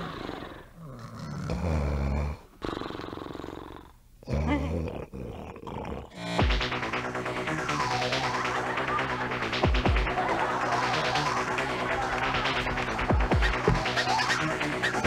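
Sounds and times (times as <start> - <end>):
people snoring comically: 0.0 - 15.0.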